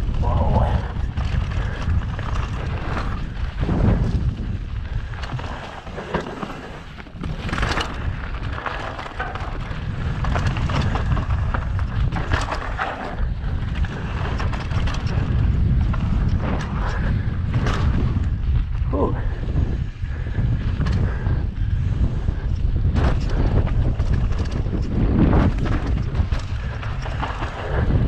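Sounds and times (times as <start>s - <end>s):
tyres on dirt: 0.0s - 18.9s, 22.6s - 28.0s
wind noise on microphone: 0.0s - 28.0s
bike knocking over bumps: 1.0s - 18.4s, 22.7s - 28.0s.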